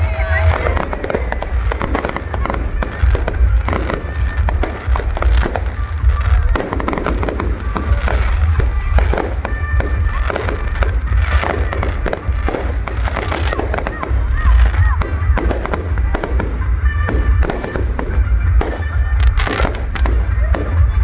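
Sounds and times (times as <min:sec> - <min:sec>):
fireworks bursting: 0:00.0 - 0:21.0
heavy low rumble: 0:00.0 - 0:21.0
music playing: 0:00.0 - 0:21.0.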